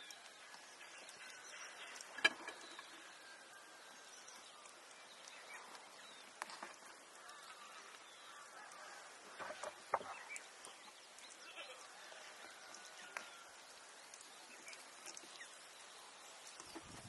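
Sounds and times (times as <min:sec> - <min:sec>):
low outdoor background: 0:00.0 - 0:17.0.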